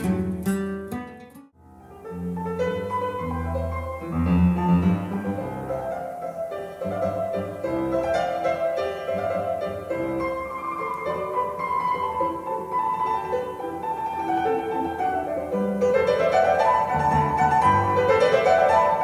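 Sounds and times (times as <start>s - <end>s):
piano and bowed strings music: 1.6s - 19.0s.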